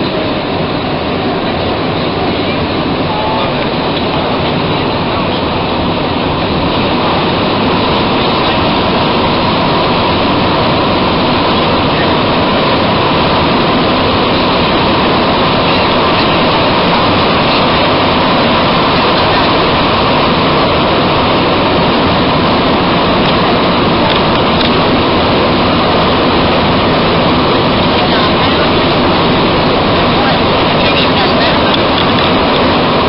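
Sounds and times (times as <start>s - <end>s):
metro car rushing through tunnel: 0.0s - 33.0s.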